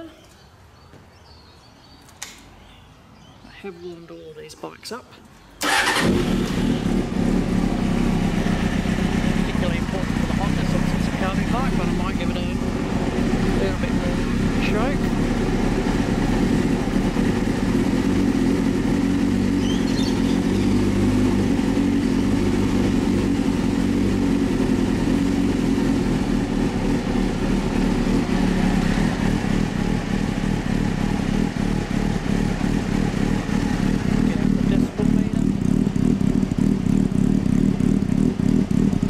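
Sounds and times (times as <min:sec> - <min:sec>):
motorcycle engine idling: 0:05.6 - 0:39.0.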